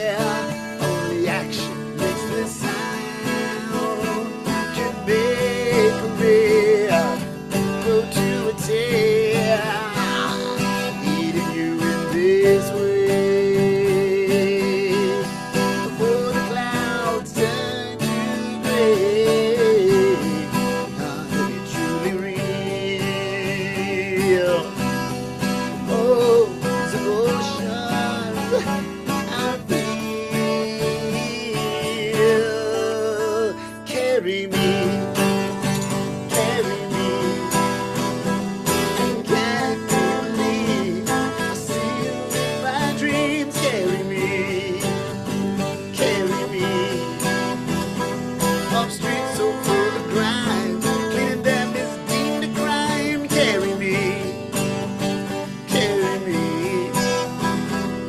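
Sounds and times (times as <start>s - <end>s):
acoustic guitar strummed: 0.0s - 58.0s
man singing with vibrato: 0.0s - 58.0s.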